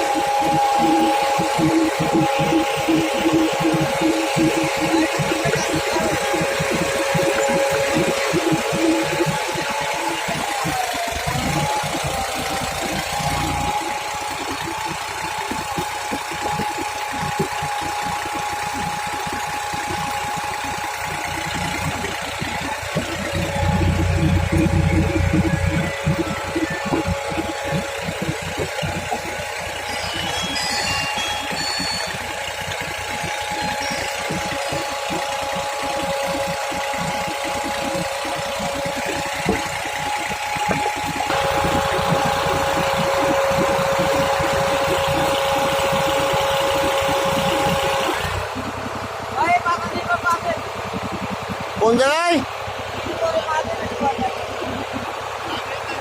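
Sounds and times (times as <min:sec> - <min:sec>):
high whine: 0:00.0 - 0:56.0
tractor engine chugging: 0:00.0 - 0:56.0.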